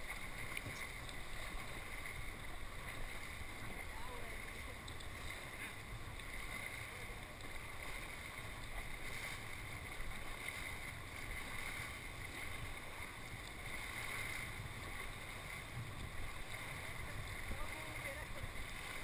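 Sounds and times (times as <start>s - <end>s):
whitewater river rushing: 0.0s - 19.0s
wind rumbling on microphone: 0.0s - 19.0s.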